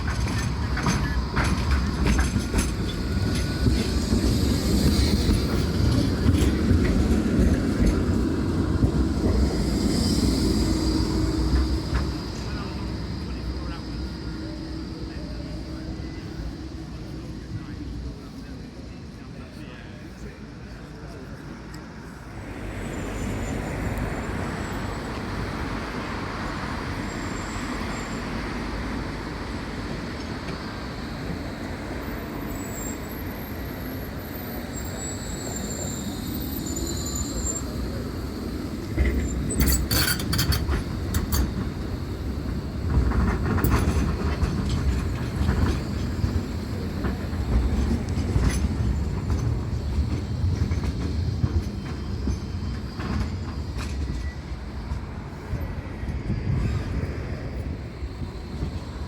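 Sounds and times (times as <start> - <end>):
tram rumbling on rails: 0.0 - 59.0
wheels clicking on track: 0.0 - 59.0.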